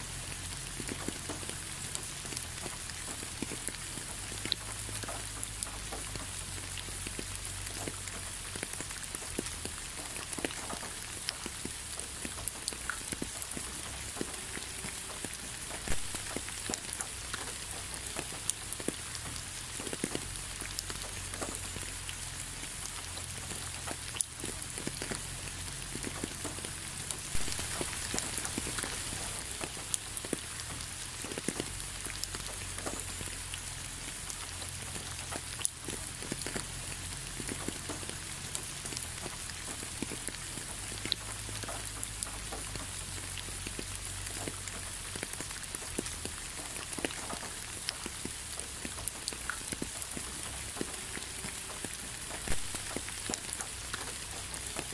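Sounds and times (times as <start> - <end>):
raindrop ticks: 0.0 - 54.9
steady rain falling: 0.0 - 54.9.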